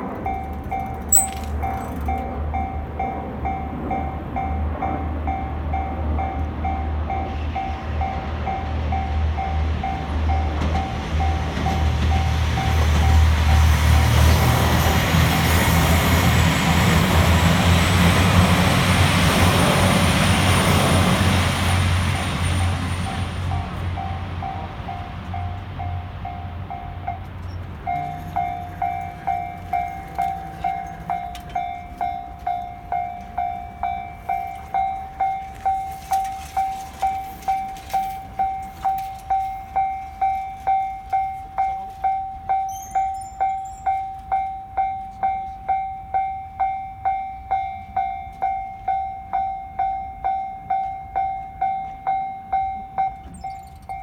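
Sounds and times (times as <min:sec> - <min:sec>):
level-crossing warning bell: 0:00.0 - 0:54.0.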